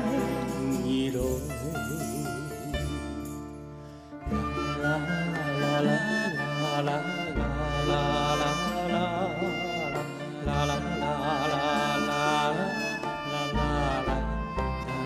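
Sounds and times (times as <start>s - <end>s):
lead melody with vibrato: 0.0s - 15.0s
string section chords: 0.0s - 15.0s.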